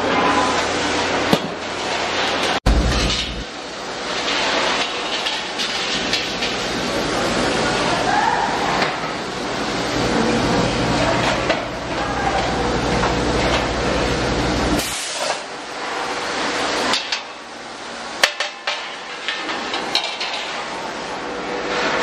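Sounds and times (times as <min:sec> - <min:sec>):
workshop machine humming: 0:00.0 - 0:22.0.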